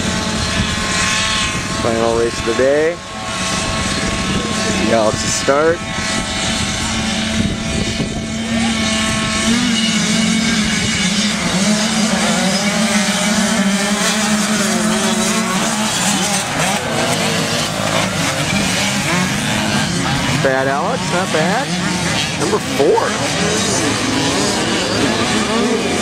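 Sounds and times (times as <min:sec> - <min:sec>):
two-stroke motocross bikes revving: 0:00.0 - 0:26.0.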